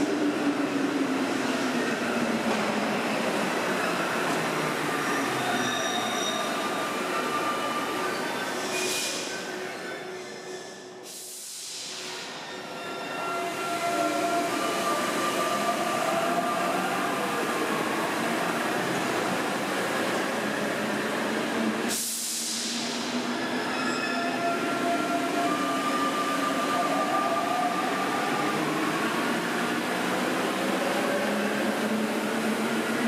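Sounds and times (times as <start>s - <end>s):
rumble of train cars: 0.0s - 33.0s.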